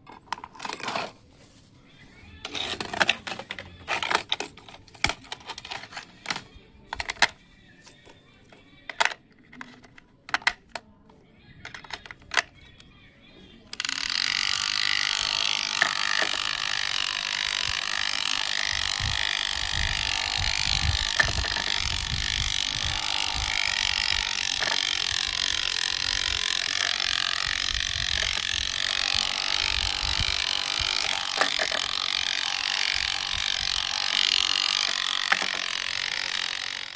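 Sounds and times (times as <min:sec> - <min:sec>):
toy car electric motor running: 0:00.0 - 0:01.2, 0:02.2 - 0:07.4, 0:08.5 - 0:10.8, 0:11.5 - 0:12.8, 0:13.6 - 0:36.9.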